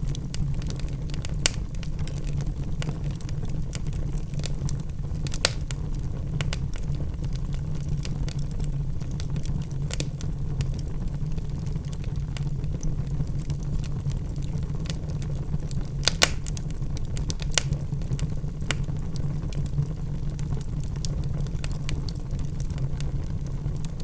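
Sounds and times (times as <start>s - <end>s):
fire rumbling: 0.0s - 24.0s
logs crackling and popping: 0.0s - 24.0s.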